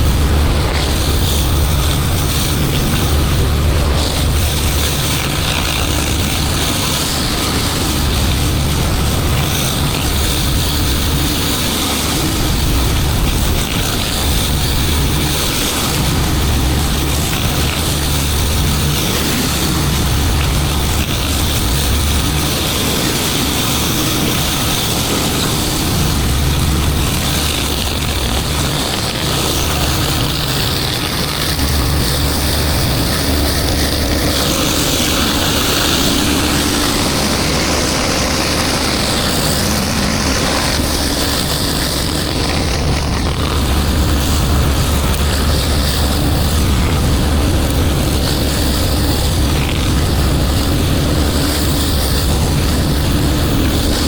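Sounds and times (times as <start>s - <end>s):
pressure washer engine running: 0.0s - 54.0s
water spraying hiss: 0.0s - 54.0s.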